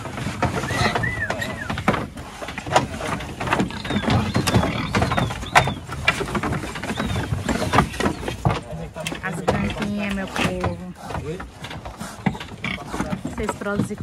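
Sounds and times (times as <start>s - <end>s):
trotters knocking on hard floor: 0.0s - 14.0s.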